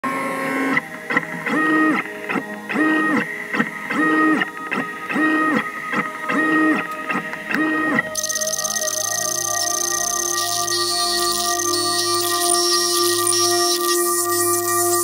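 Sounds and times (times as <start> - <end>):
printer stepper motors whining: 0.2 - 15.0.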